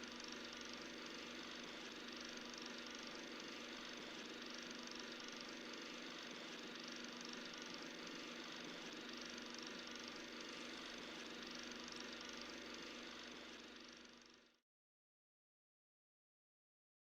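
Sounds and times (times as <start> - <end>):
film projector clattering: 0.0 - 14.5.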